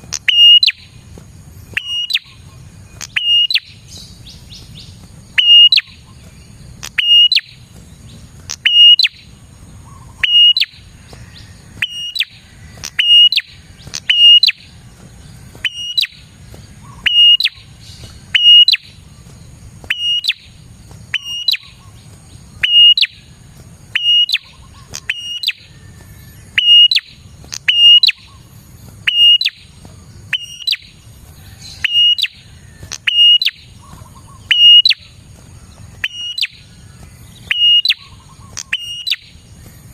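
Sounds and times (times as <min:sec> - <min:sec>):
bird calling sharp high notes: 0:00.0 - 0:01.0, 0:01.7 - 0:06.2, 0:06.8 - 0:07.7, 0:08.5 - 0:14.8, 0:15.5 - 0:19.1, 0:19.8 - 0:22.0, 0:22.6 - 0:23.3, 0:23.9 - 0:35.3, 0:36.0 - 0:39.4.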